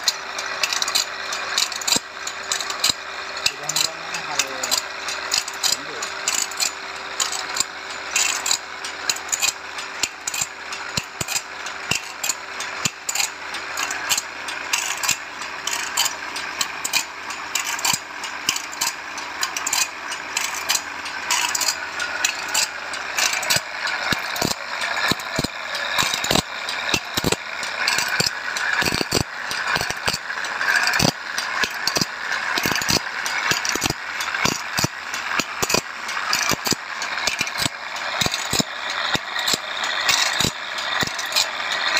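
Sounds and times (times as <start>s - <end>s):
grinding wheel hissing: 0.0s - 41.9s
sharp mechanical clicks and rattles: 0.0s - 41.9s.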